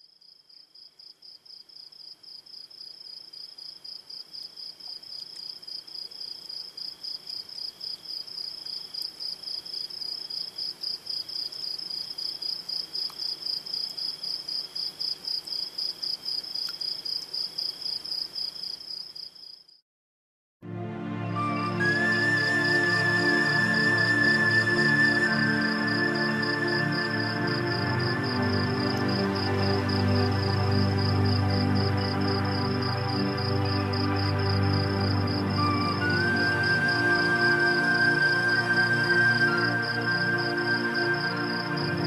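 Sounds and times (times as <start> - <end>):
cricket chirping: 0.0 - 19.8, 23.6 - 42.0.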